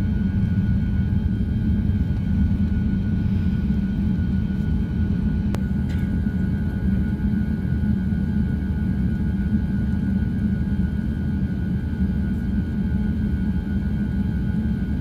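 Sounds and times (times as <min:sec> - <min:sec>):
aircraft cabin low rumble: 0:00.0 - 0:15.0
faint steady whine: 0:00.0 - 0:15.0.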